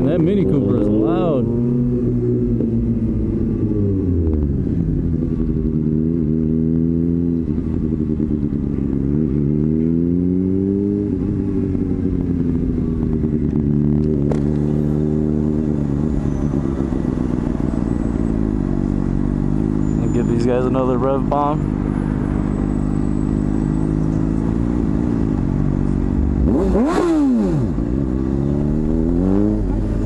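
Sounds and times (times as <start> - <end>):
motorcycle engine: 0.0 - 30.0.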